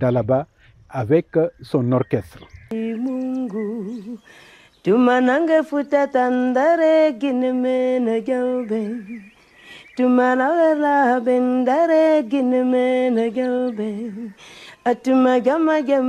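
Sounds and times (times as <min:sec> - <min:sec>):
person singing unaccompanied: 0:02.7 - 0:16.0.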